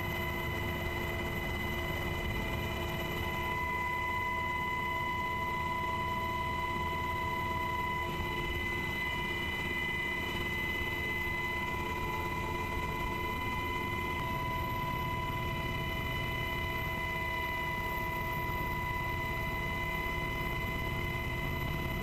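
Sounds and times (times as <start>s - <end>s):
aircraft engine low rumble: 0.0s - 22.0s
constant high whine: 0.0s - 22.0s.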